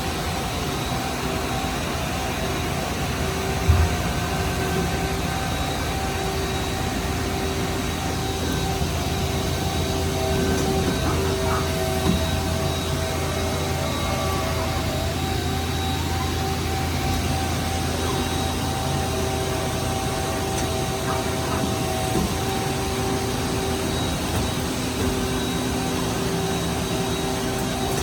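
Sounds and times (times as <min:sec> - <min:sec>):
machine hum and whir: 0:00.0 - 0:28.0.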